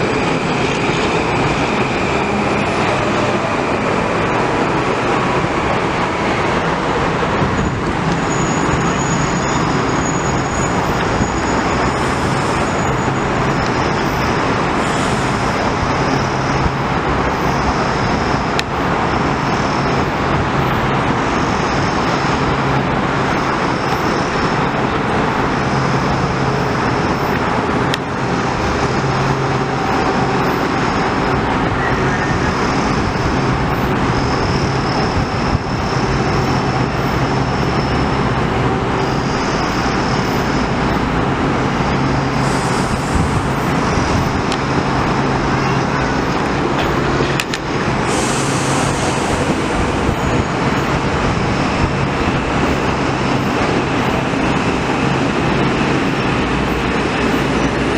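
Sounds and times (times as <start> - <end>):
electric train rumble and hiss: 0.0 - 57.9.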